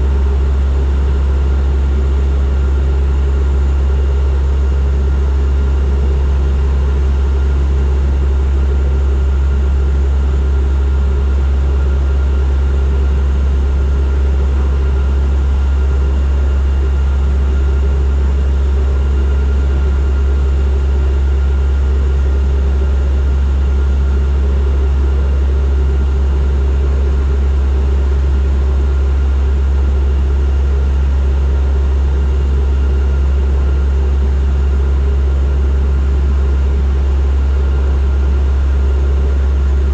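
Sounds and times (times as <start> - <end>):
steady engine whine: 0.0 - 39.9.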